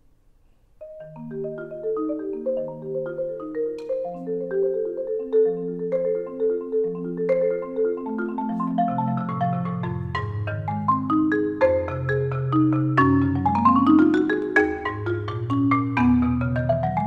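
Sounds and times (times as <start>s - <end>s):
solo marimba played with mallets: 0.8s - 17.0s.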